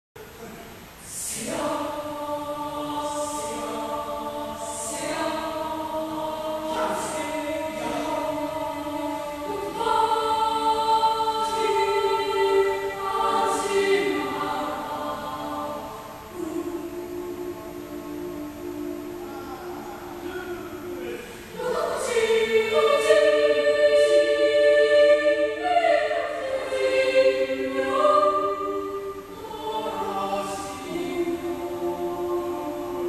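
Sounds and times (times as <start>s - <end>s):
children's choir singing: 0.2s - 33.0s.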